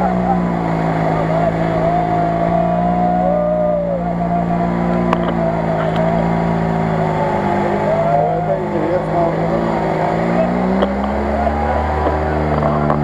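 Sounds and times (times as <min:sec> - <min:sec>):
buggy engine running under load: 0:00.0 - 0:13.0.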